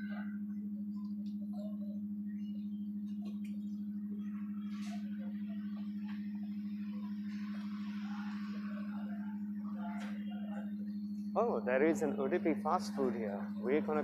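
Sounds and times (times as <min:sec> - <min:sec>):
faint street sounds: 0:00.0 - 0:14.0
low humming drone with wobble: 0:00.0 - 0:14.0.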